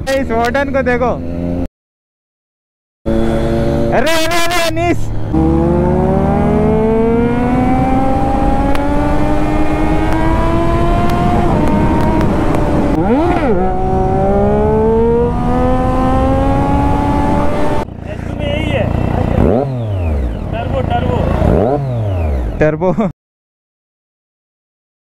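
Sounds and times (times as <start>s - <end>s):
motorcycle engine accelerating: 0.0s - 1.7s, 3.1s - 23.0s.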